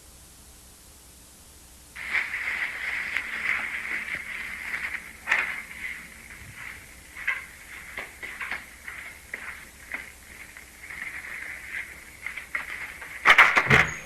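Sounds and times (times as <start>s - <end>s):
crackling static with pops: 0.0s - 14.0s.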